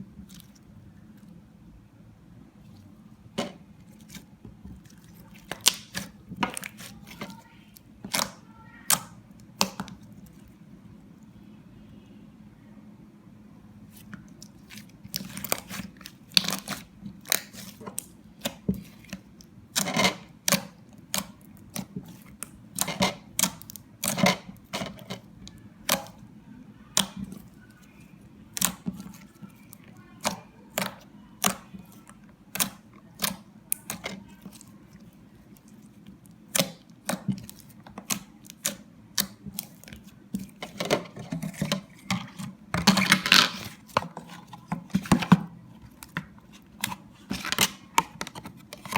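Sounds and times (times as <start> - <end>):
faint low hum: 0.0 - 48.9.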